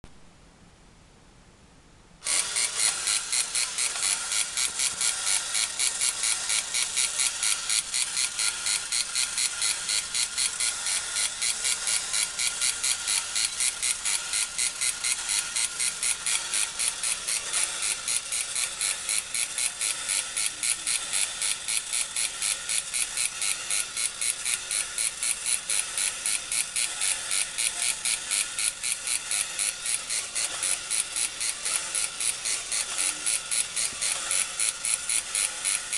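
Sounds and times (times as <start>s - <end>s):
toy motor and gears whirring: 2.2s - 35.9s.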